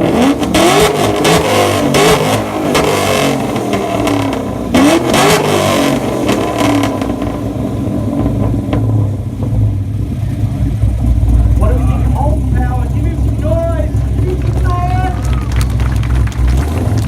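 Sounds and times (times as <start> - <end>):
car engine revving: 0.0 - 17.0
exhaust crackles: 0.0 - 17.0.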